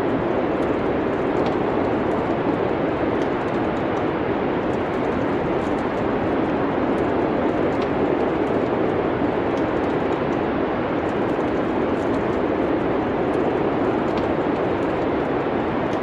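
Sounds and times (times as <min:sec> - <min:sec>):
wood fire crackles: 0:00.0 - 0:16.0.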